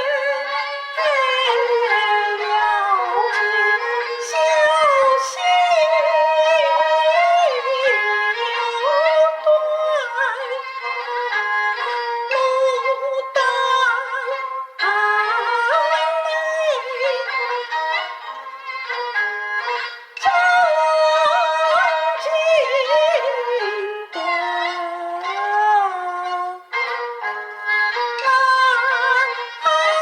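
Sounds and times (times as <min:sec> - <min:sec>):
bowed string opera melody: 0:00.0 - 0:30.0.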